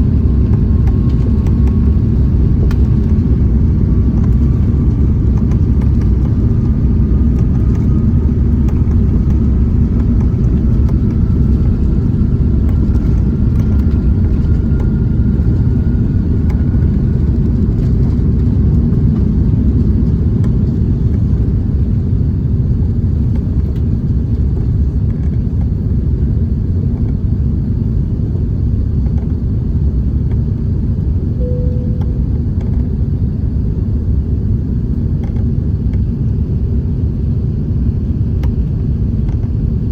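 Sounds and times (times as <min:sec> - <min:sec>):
faint engine whine: 0:00.0 - 0:39.9
jet engines rumbling in cabin: 0:00.0 - 0:39.9.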